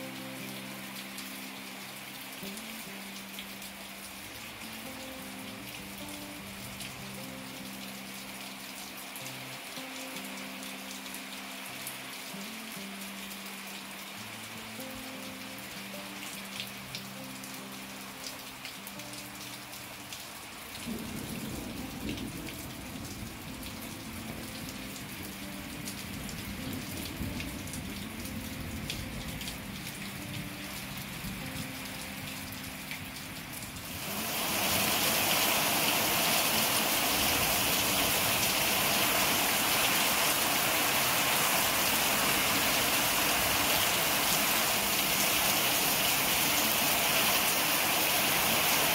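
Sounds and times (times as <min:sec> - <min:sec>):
heavy downpour hiss: 0:00.0 - 0:48.9
rain pattering on patio and plants: 0:00.0 - 0:48.9.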